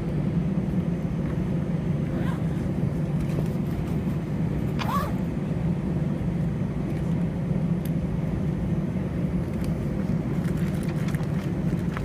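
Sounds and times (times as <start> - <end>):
low rumble inside aircraft cabin: 0.0 - 12.0.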